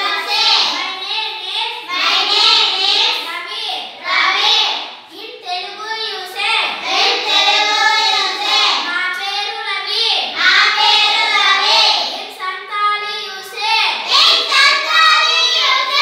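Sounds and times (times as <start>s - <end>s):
children chanting together: 0.0s - 16.0s.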